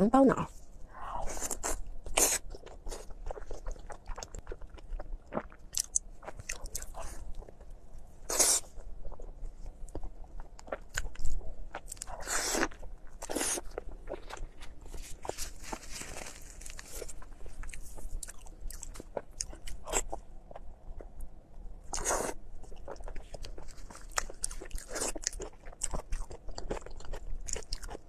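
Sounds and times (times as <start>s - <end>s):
close-miked chewing: 1.0s - 21.3s, 21.9s - 28.0s.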